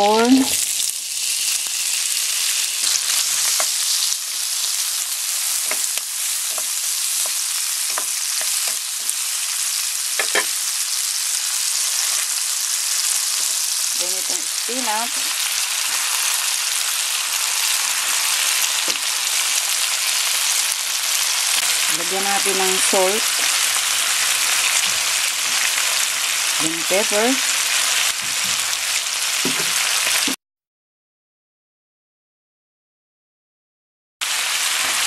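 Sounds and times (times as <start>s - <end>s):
corn sizzling in a frying pan: 0.0s - 30.4s, 34.2s - 35.0s.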